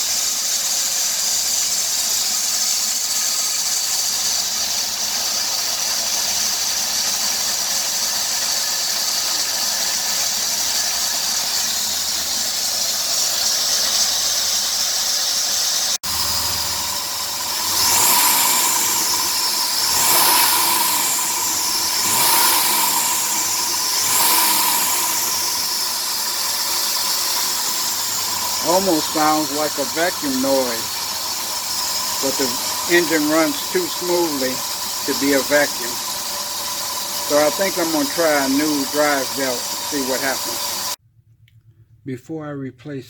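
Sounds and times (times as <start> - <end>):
hissing squeal from engine: 0.0 - 41.0
water spraying: 0.0 - 41.0
car engine revving: 0.9 - 14.2, 16.0 - 41.0.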